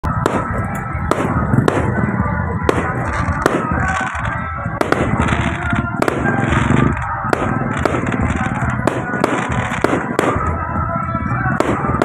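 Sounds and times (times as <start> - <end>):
fireworks bangs: 0.0 - 12.0
steady background din: 0.0 - 12.0.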